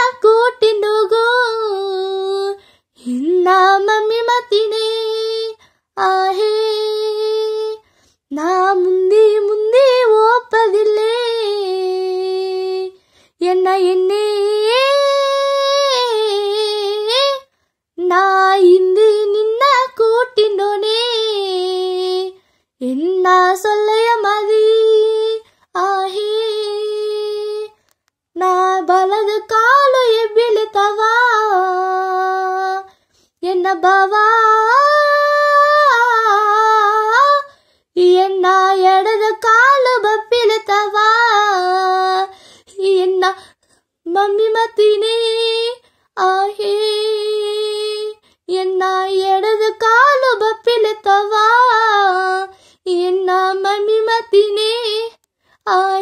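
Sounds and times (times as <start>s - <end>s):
girl singing unaccompanied: 0.0s - 56.0s.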